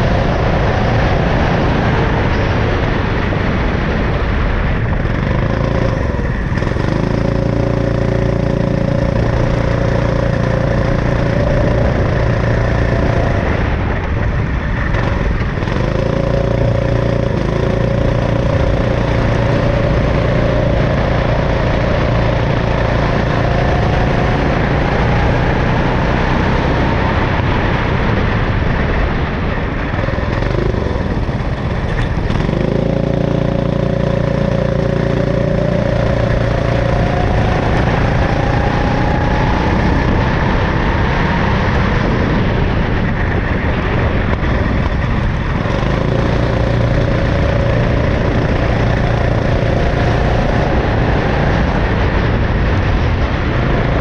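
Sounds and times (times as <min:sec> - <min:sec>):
go-kart engine racing: 0:00.0 - 0:54.0
wind and road noise: 0:00.0 - 0:54.0.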